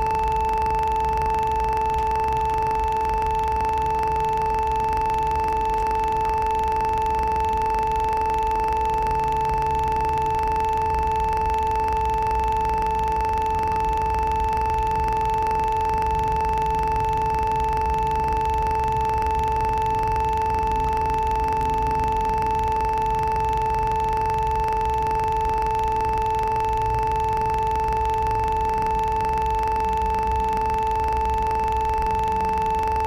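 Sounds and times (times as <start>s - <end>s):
electronic drone: 0.0s - 33.0s.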